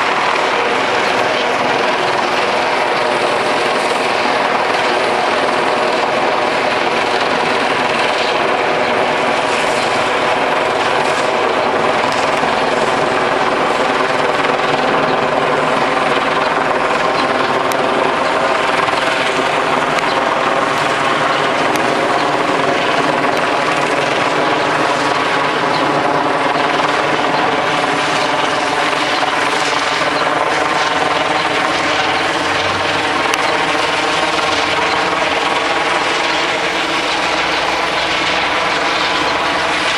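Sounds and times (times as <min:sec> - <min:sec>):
helicopter hovering: 0:00.0 - 0:39.9.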